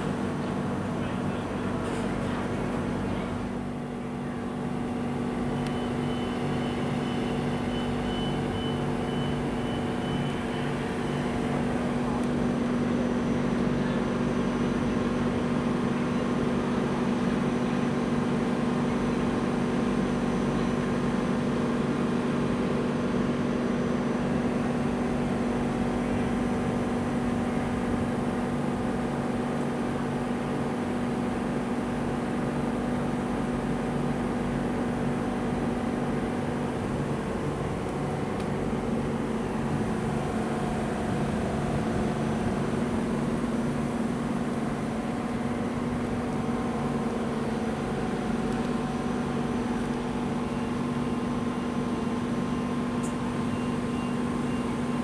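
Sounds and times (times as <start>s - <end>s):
steady electric hum: 0.0s - 55.0s.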